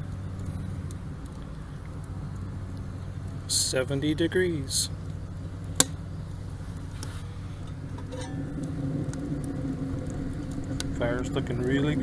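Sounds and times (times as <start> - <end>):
burning wood cracking: 0.0 - 12.0
stove fire roaring: 0.0 - 12.0.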